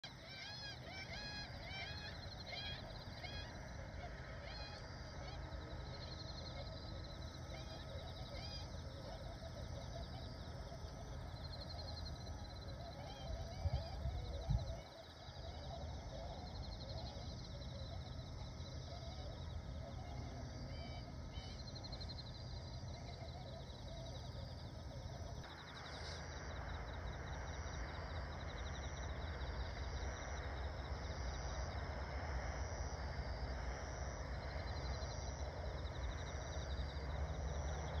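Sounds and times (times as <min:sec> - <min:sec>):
distant waterfowl calling: 0:00.0 - 0:38.0
insect chirping: 0:00.0 - 0:38.0
low rumble of wind: 0:00.0 - 0:38.0.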